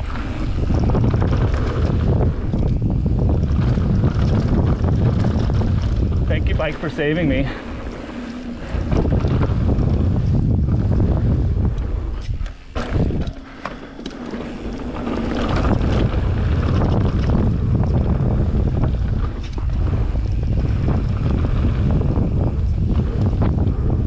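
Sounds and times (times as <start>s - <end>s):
bike knocks and rattles: 0.0s - 24.0s
wind buffeting microphone: 0.0s - 24.0s.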